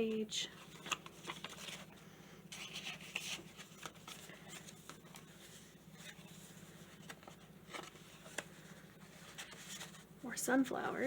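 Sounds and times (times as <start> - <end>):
paper pages rustling: 0.0 - 10.1.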